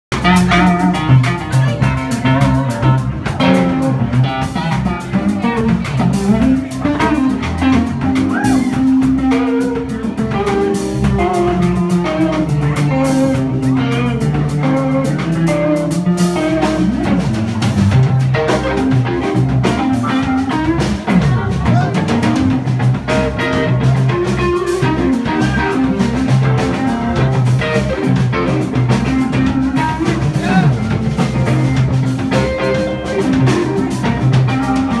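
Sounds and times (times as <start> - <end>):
drum kit: 0.1 - 35.0
electric bass: 0.1 - 35.0
electric guitar lead lines: 0.1 - 35.0.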